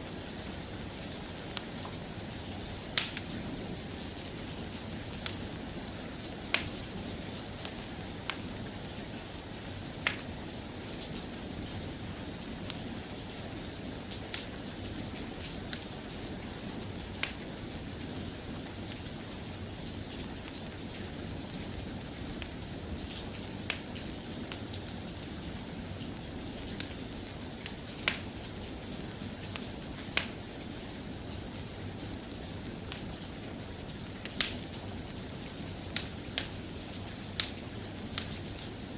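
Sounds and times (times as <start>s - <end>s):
soft rain: 0.0s - 38.9s.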